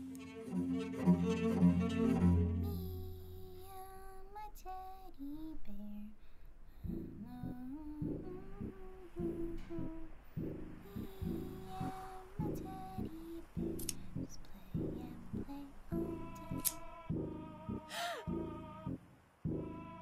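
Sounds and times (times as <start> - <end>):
girl humming a slow tune: 2.4 - 19.0.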